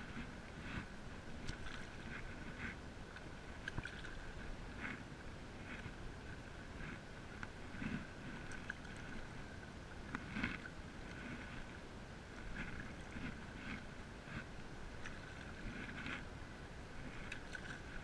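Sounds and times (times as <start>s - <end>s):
paddle splashing in water: 0.0s - 16.3s, 16.9s - 18.0s.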